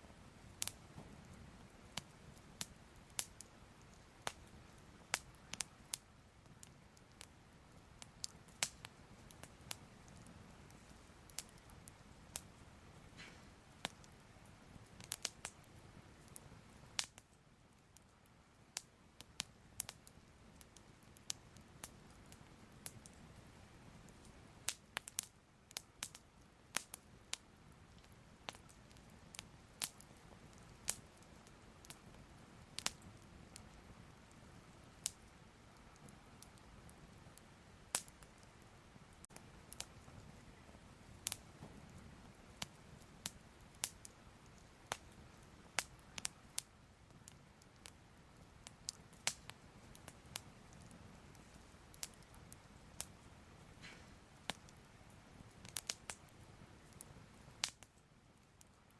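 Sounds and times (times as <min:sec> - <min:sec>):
fire crackling and popping: 0:00.0 - 0:58.9
low steady hiss: 0:00.0 - 0:58.9.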